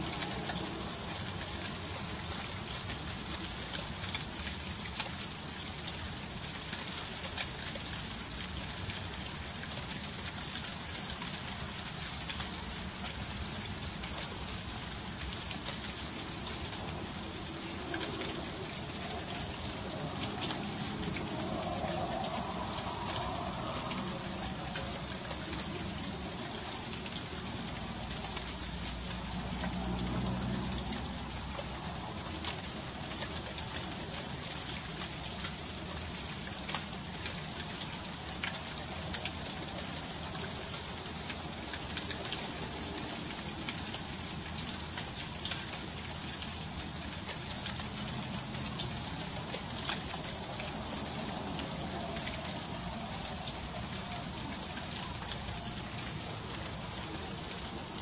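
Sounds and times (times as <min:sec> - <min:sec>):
freezing rain hissing: 0:00.0 - 0:58.0.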